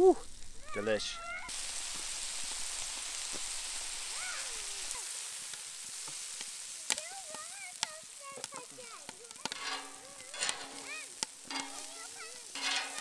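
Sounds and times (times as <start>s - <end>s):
steak sizzling on a griddle: 0.0s - 13.0s.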